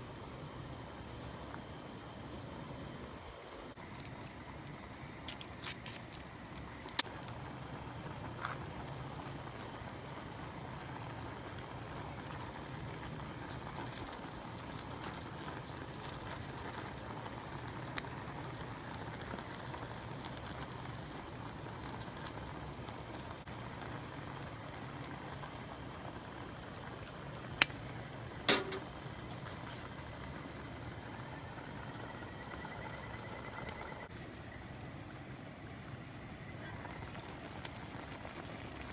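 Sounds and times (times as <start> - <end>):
food simmering and bubbling: 0.0 - 34.1, 34.8 - 38.9.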